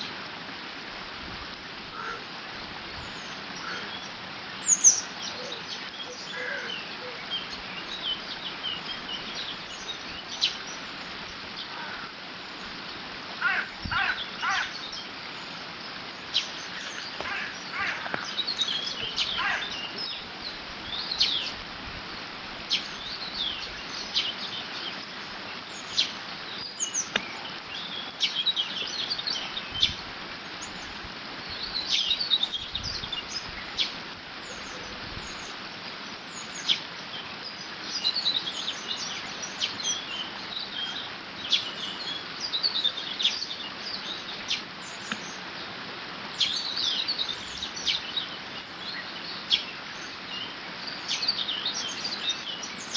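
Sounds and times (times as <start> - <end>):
small birds chirping: 2.0 - 52.9.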